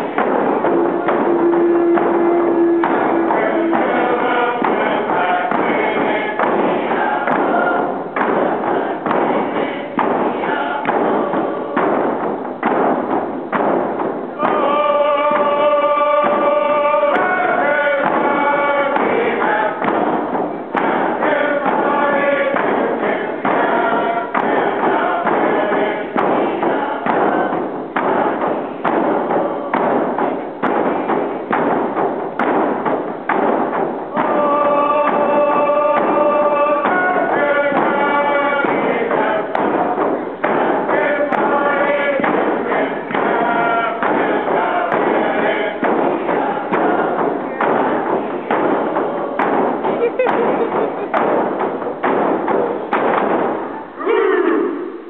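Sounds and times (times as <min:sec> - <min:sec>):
steady drum beat: 0:00.0 - 0:54.0
group of people singing: 0:00.0 - 0:54.7.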